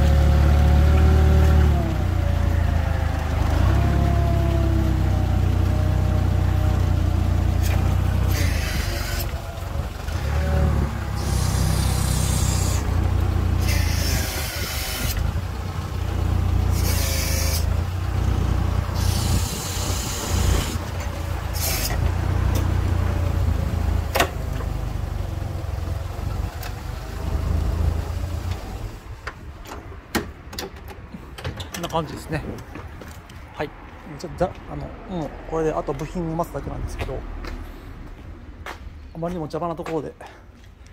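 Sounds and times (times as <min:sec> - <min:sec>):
forklift engine running: 0:00.0 - 0:33.4.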